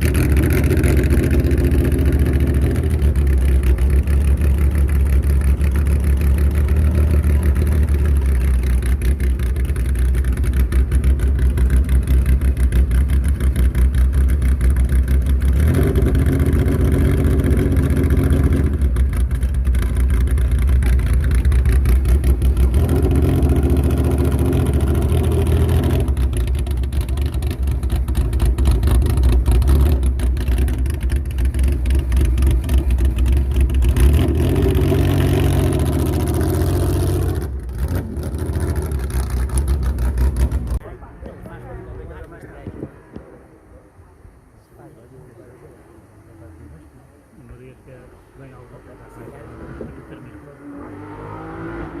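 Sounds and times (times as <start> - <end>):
rally car engine revving: 0.0 - 41.4, 48.6 - 52.0.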